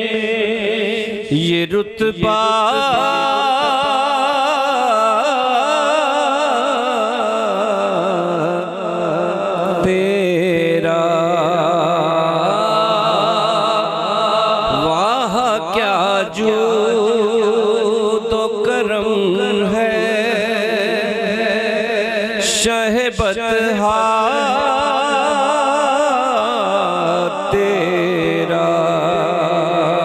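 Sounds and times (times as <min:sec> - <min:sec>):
devotional singing voice: 0:00.0 - 0:30.0.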